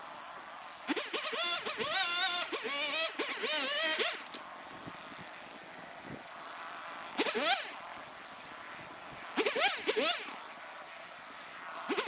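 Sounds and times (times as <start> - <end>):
chainsaw revving: 0.0 - 12.0
steady hiss: 0.0 - 12.0.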